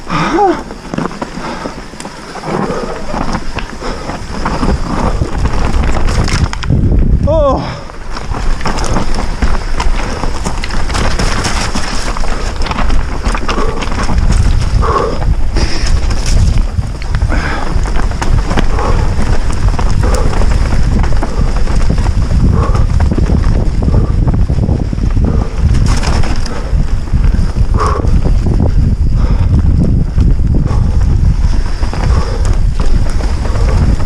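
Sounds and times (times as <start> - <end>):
bike frame and chain rattling: 0.0 - 34.0
tyres crunching over loose stones: 0.0 - 34.0
wind rumble on microphone: 0.0 - 34.0.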